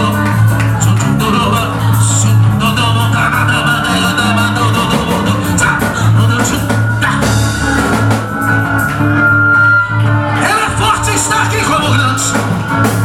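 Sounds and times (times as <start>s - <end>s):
drum kit: 0.0s - 13.0s
electric guitar: 0.0s - 13.0s
pulsing bass line: 0.0s - 13.0s.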